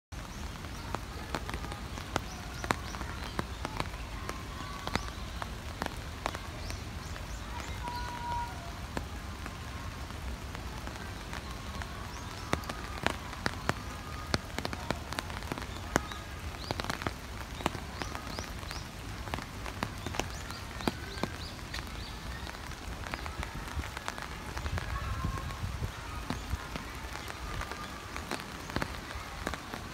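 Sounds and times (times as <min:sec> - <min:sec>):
rain on wet concrete: 0:00.1 - 0:29.9.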